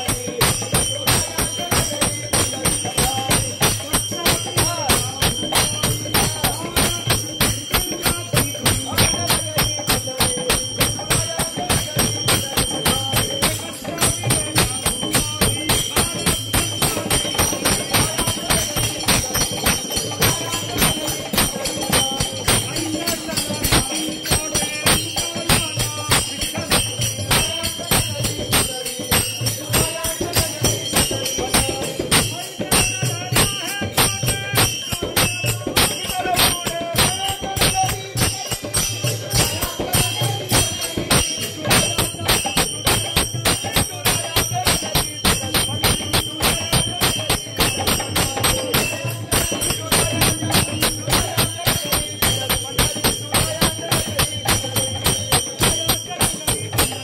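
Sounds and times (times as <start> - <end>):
group devotional singing: 0.0 - 57.0
quick percussive strokes: 0.0 - 57.0.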